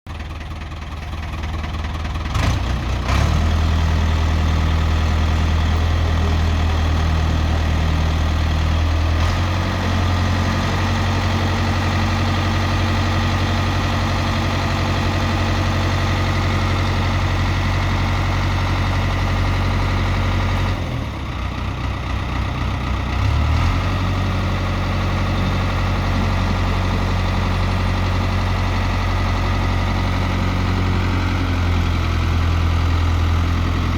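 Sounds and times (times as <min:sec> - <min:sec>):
backhoe engine running: 0:00.1 - 0:33.9.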